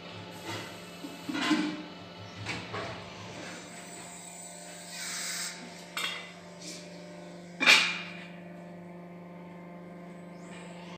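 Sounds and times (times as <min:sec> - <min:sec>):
hydraulic press motor hum: 0:00.0 - 0:10.9.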